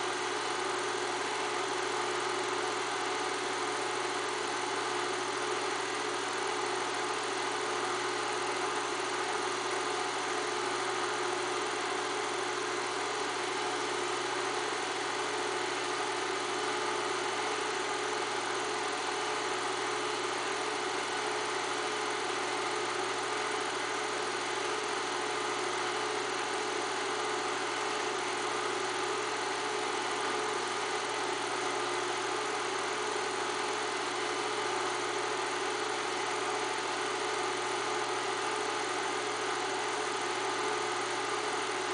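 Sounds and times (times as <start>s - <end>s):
film projector whirring: 0.0s - 41.9s.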